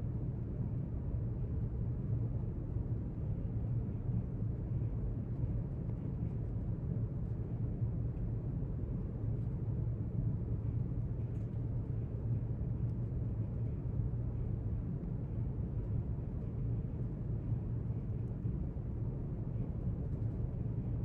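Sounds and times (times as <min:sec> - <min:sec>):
low room rumble: 0:00.0 - 0:21.0.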